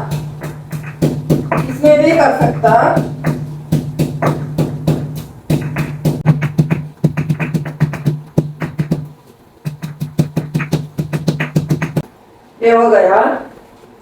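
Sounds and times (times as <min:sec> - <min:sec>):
pestle pounding in stone mortar: 0:00.0 - 0:12.0.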